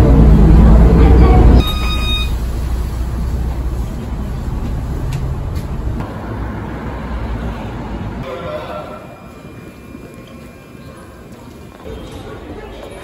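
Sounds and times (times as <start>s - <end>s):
bus engine rumble: 0.0s - 13.0s
street traffic noise: 0.0s - 13.0s.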